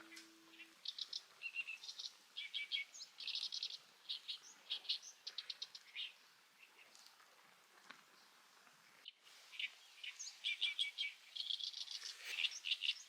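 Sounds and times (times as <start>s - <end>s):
small bird chirping: 0.0s - 7.0s, 9.0s - 13.0s.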